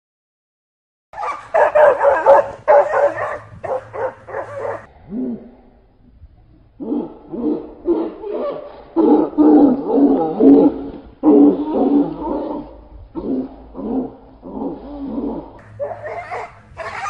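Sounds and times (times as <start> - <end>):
dogs growling and snarling: 1.2 - 5.8, 6.8 - 17.0.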